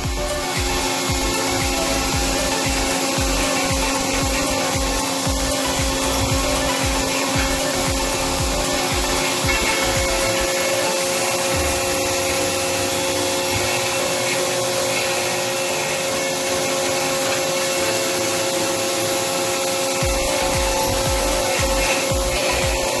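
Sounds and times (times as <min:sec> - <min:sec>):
drill rig drilling: 0:00.0 - 0:23.0.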